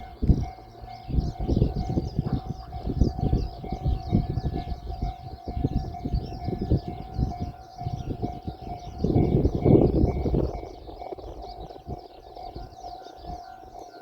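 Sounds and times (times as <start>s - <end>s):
level-crossing bell ringing: 0.0s - 14.0s
low rumble with knocks: 0.1s - 12.5s.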